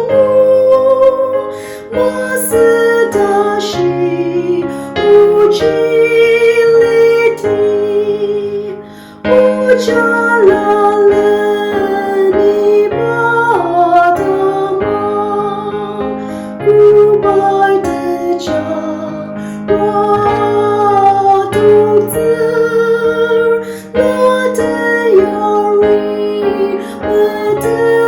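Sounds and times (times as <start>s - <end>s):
slow keyboard music: 0.0s - 28.0s.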